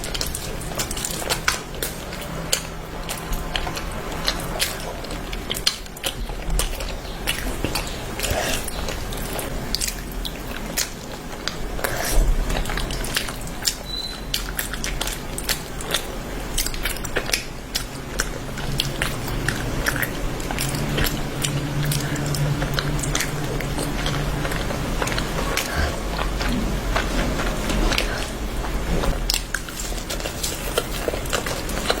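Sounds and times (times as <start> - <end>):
chewing with wet mouth smacks: 0.0 - 32.0
low steady hum: 0.0 - 32.0.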